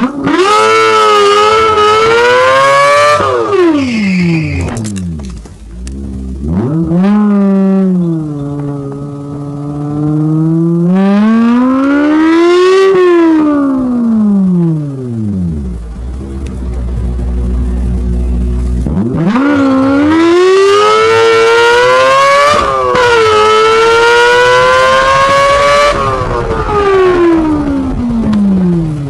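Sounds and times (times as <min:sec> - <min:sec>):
car engine wailing under acceleration: 0:00.0 - 0:29.0.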